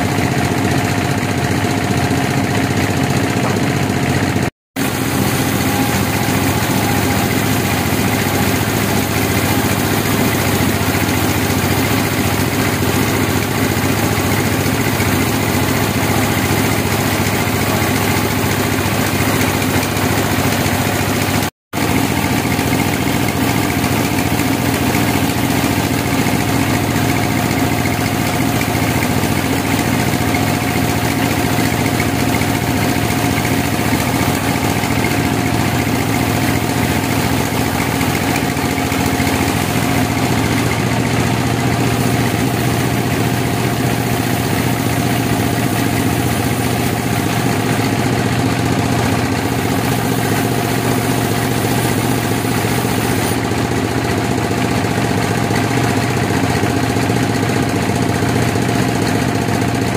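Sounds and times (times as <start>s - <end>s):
band saw mill droning: 0.0s - 59.9s.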